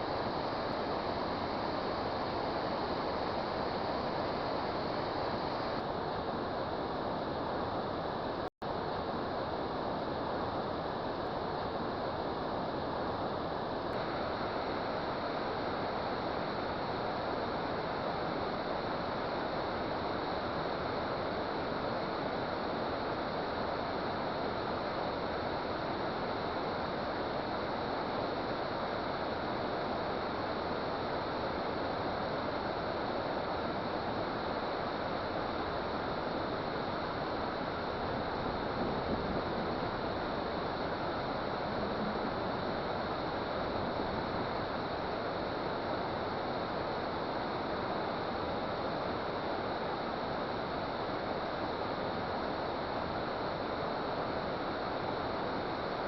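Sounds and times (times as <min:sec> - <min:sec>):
water rushing at a dam: 0:00.0 - 0:56.0.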